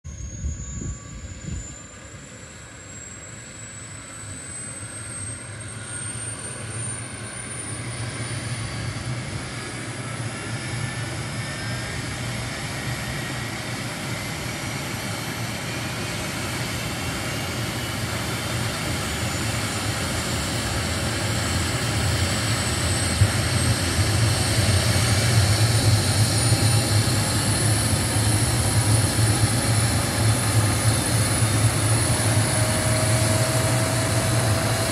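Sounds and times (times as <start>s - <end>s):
helicopter rotor beat: 0.1s - 34.9s
helicopter turbine whine: 0.1s - 34.9s.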